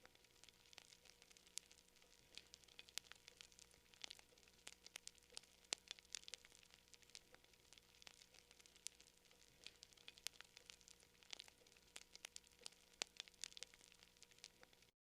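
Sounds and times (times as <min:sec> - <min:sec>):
campfire crackling: 0:00.0 - 0:14.9
soft hiss: 0:00.0 - 0:14.9.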